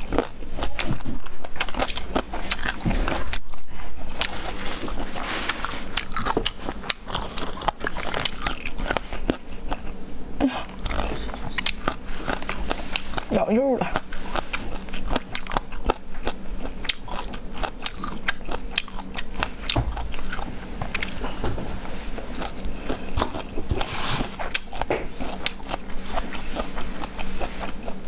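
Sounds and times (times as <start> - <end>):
chewing and biting food: 0.0 - 28.0.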